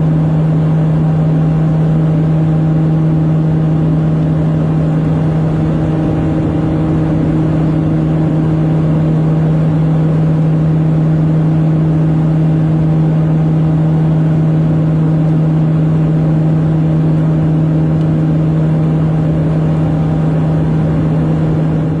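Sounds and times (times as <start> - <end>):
propeller aircraft engines droning: 0.0 - 22.0.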